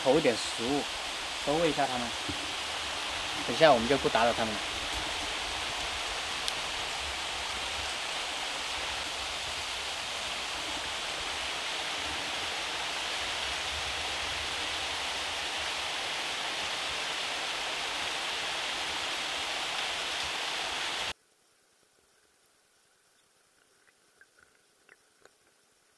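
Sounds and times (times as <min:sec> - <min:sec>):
stream water splashing over stones: 0:00.0 - 0:21.1.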